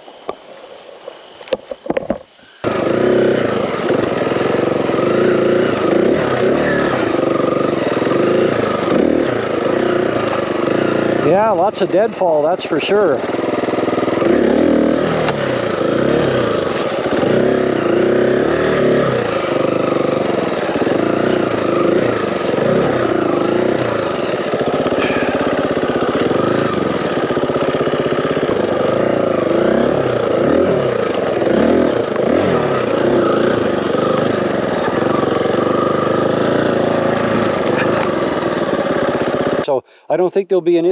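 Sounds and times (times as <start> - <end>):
dirt bike engines revving: 2.6 - 40.9.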